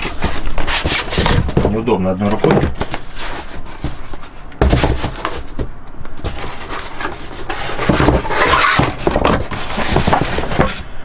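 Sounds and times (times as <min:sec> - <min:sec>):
cardboard boxes scraping: 0:00.0 - 0:10.8.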